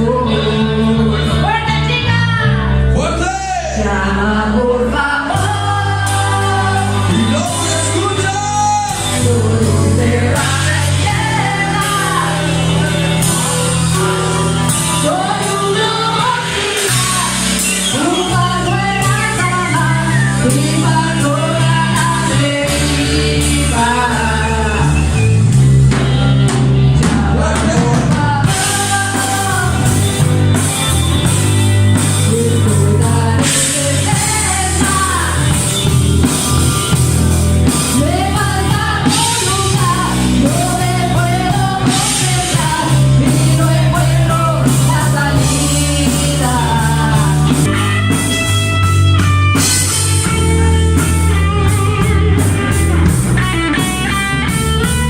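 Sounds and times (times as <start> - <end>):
electric guitar riff: 0.0 - 55.0
rock song with vocals: 0.0 - 55.0.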